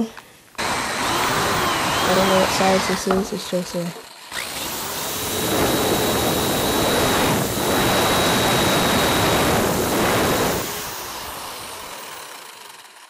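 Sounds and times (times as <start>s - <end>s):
electric drill boring plastic: 0.6s - 13.0s.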